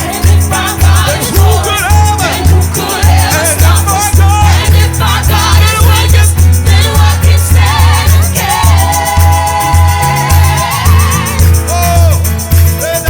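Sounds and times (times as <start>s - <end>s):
people singing long notes: 0.0s - 11.8s
bass beat: 0.0s - 13.0s
gospel band music: 0.0s - 13.0s.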